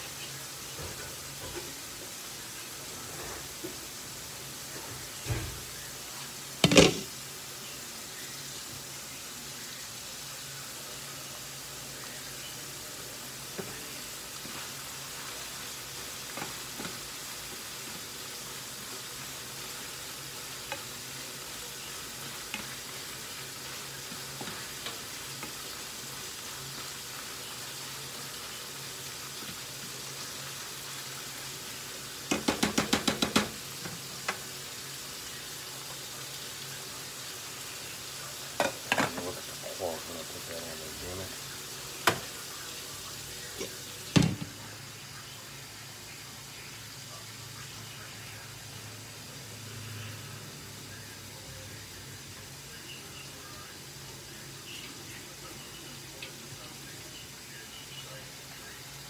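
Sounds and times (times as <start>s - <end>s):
beef sizzling in a frying pan: 0.0s - 59.0s.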